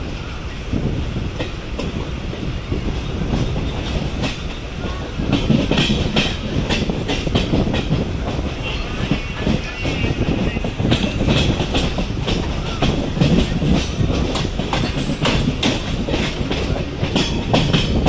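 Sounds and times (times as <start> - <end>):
electric train rumble: 0.0 - 18.0
wheels clacking over track: 1.4 - 18.0.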